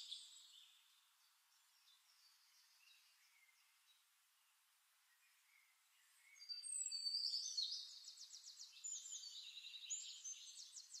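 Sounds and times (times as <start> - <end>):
birdsong with chirps and trills: 0.0 - 11.0.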